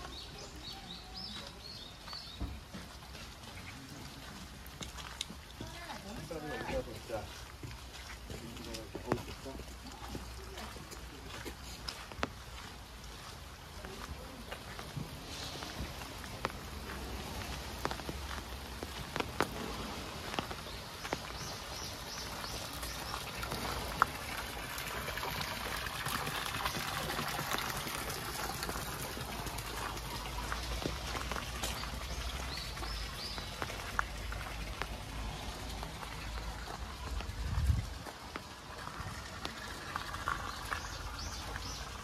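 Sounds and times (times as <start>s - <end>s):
light rain pattering: 0.0s - 42.0s
water trickling: 0.0s - 42.0s.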